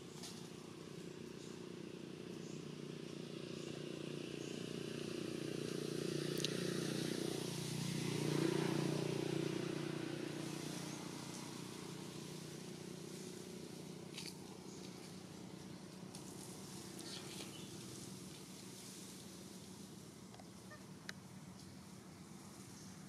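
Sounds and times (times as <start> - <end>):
vehicle passing by: 0.2 - 23.0.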